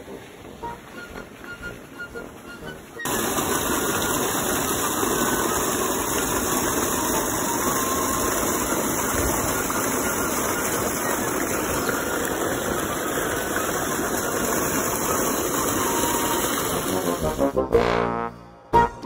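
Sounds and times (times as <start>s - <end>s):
water rushing from pipe: 0.0s - 17.7s.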